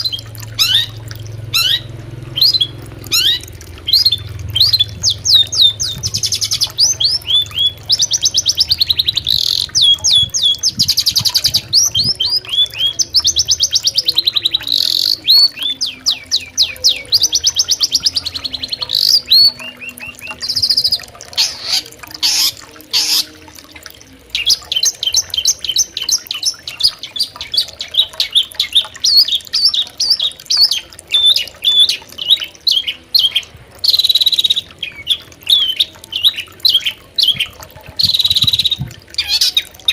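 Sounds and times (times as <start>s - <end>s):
shrike singing chirps and trills: 0.0s - 39.9s.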